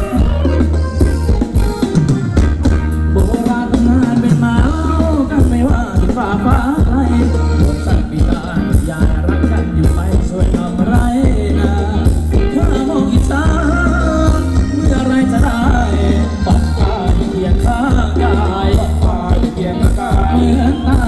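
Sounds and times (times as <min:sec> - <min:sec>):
person singing: 0:00.0 - 0:02.4, 0:03.1 - 0:21.0
live band dance song: 0:00.0 - 0:21.0.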